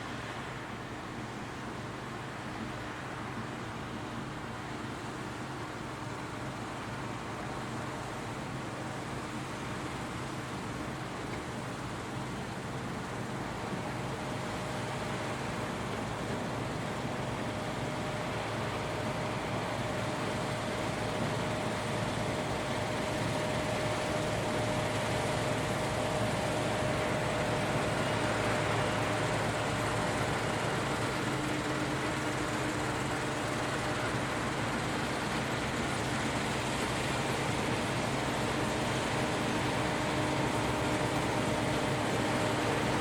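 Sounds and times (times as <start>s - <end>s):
combine harvester drone: 0.0s - 43.0s
faint steady whine: 0.0s - 43.0s
lower machine whine: 0.0s - 43.0s.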